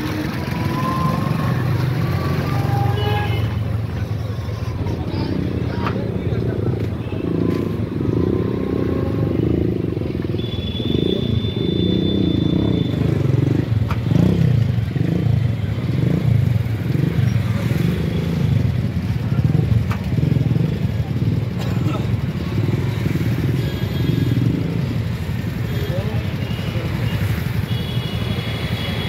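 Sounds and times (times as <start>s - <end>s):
motorcycle engines running: 0.0s - 29.0s
street traffic: 0.0s - 29.0s.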